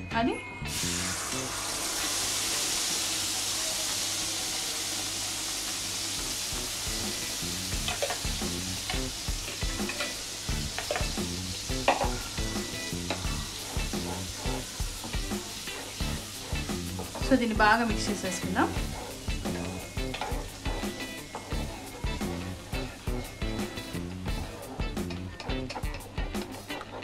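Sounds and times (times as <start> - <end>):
mixture sizzling in hot oil: 0.6 - 27.0.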